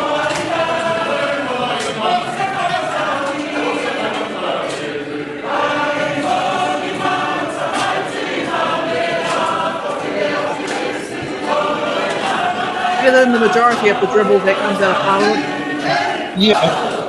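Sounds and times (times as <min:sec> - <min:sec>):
choir singing: 0:00.0 - 0:13.0, 0:15.3 - 0:17.0.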